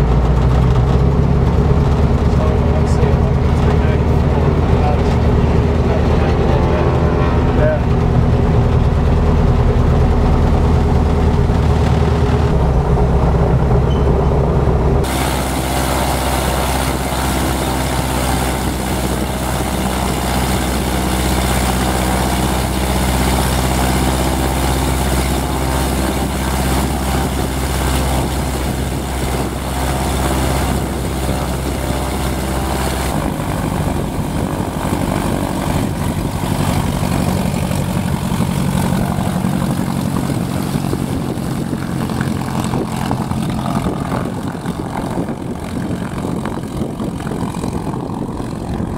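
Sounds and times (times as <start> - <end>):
aircraft engine and propeller: 0.0 - 48.9.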